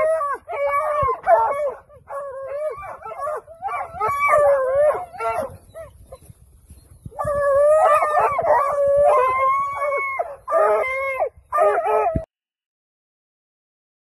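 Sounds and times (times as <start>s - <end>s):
dogs baying and howling: 0.0s - 12.3s.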